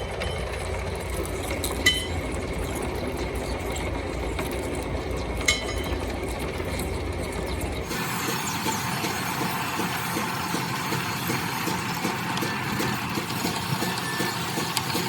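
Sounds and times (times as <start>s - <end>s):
machine running: 0.0s - 15.0s.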